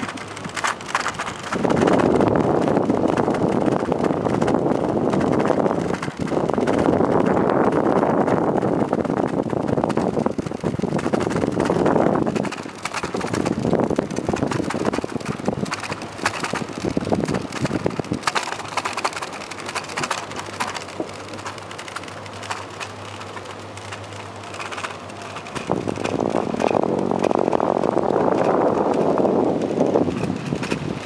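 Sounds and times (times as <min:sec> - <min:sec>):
bicycle rattling over wooden planks: 0:00.0 - 0:31.0
wind rumbling on microphone: 0:00.0 - 0:31.0.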